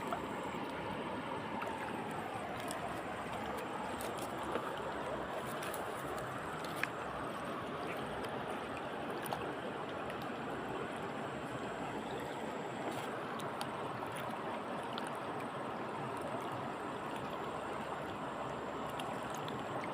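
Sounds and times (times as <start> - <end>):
flowing water: 0.0 - 19.9.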